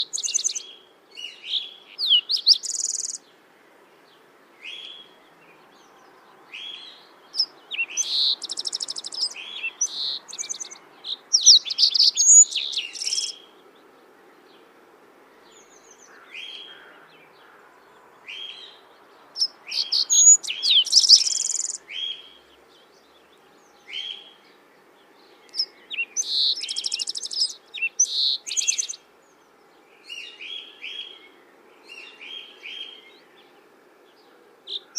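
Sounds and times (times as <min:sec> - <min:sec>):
faint steady hiss: 0:00.0 - 0:34.9
songbirds chirping and singing: 0:00.0 - 0:34.9.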